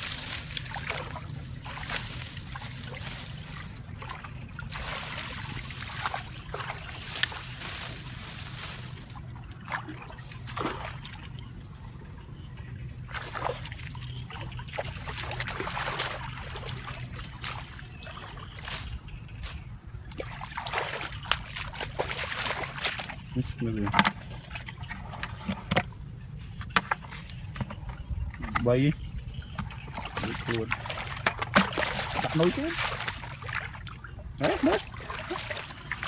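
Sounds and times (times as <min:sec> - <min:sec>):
steady low hum: 0:00.0 - 0:36.0
water splashing and sloshing: 0:00.0 - 0:36.0.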